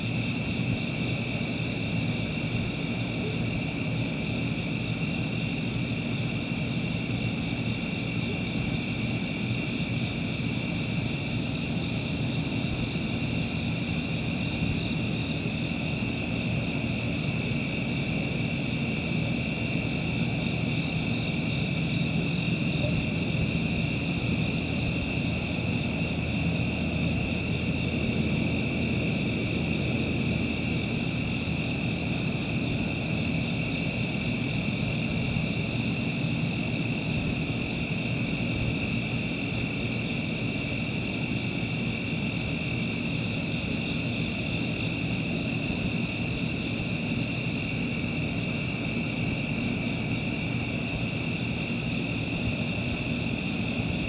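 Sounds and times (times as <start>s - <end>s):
night insects chorus: 0.0s - 54.0s.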